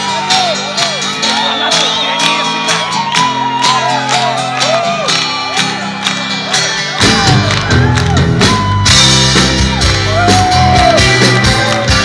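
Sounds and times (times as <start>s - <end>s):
bass guitar: 0.0s - 12.0s
drum kit: 0.0s - 12.0s.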